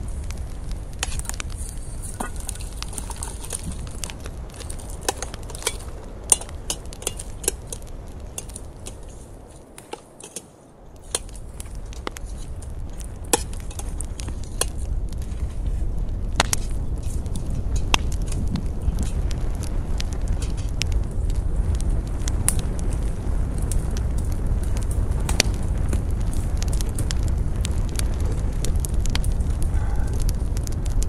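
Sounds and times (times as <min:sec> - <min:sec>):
campfire crackling: 0:00.0 - 0:31.0
fire popping: 0:00.0 - 0:31.0
low rush of burning fire: 0:00.0 - 0:31.0.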